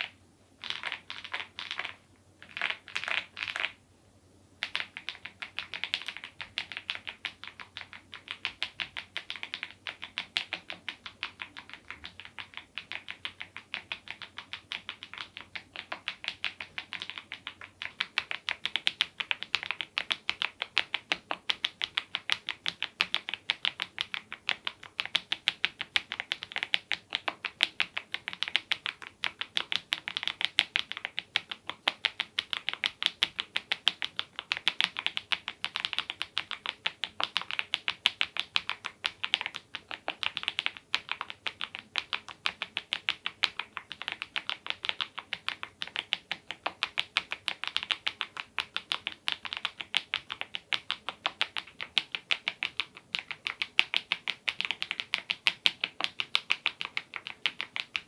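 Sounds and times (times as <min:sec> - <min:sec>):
mechanical keyboard typing: 0:00.0 - 0:03.8, 0:04.6 - 0:58.0.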